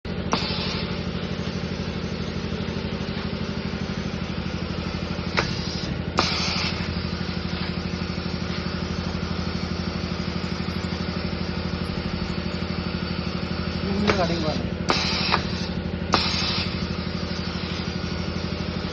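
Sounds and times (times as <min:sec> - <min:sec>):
machine humming and pulsing: 0:00.0 - 0:18.9.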